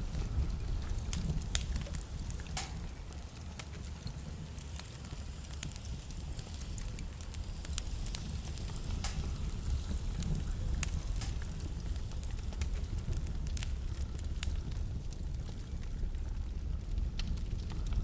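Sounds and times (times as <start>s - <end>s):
burning logs crackling and popping: 0.0s - 18.0s
fire flames rumbling: 0.0s - 18.0s.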